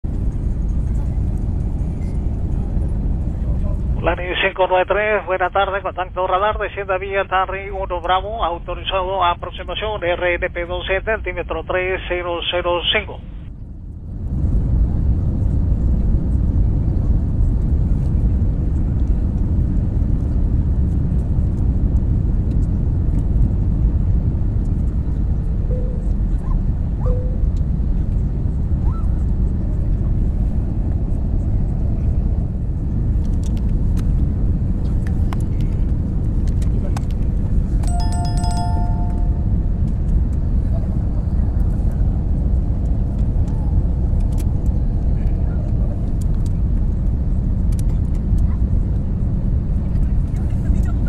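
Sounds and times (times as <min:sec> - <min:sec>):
airplane cabin rumble: 0:00.0 - 0:51.0.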